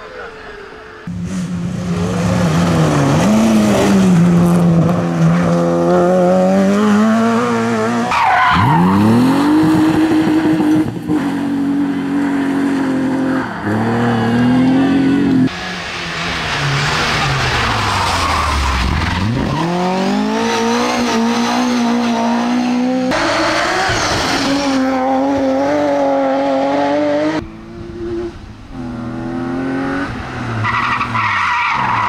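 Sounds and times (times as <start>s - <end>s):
rally car engine at high revs: 1.1s - 32.0s.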